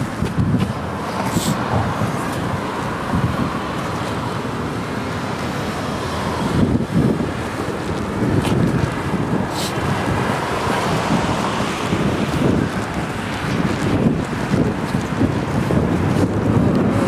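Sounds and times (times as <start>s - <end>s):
street traffic noise: 0.0s - 17.0s
wind buffeting microphone: 0.0s - 17.0s.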